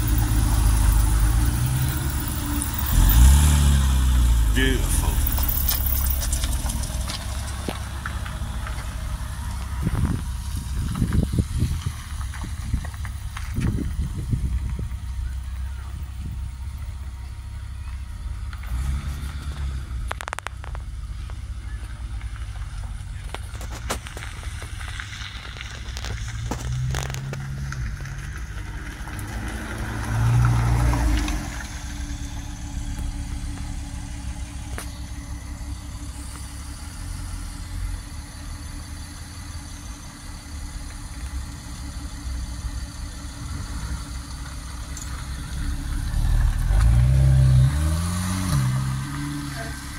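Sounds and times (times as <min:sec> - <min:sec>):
car engines running: 0:00.0 - 0:49.9.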